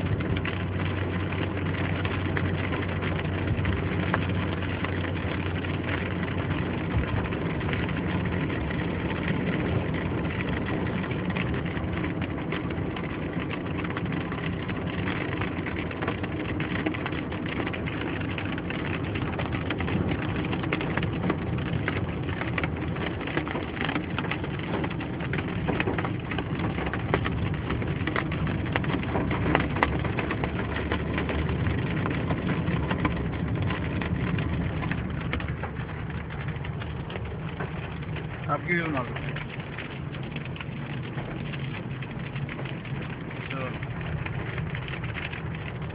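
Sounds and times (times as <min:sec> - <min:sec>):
engine and tyre noise: 0:00.0 - 0:45.9
rain pattering on a vehicle: 0:00.0 - 0:45.9.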